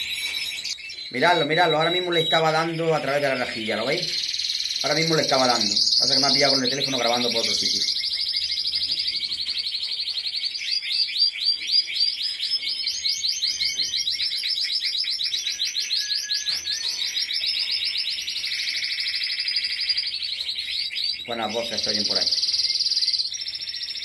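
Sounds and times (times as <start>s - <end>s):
canary trilling: 0.0s - 24.0s.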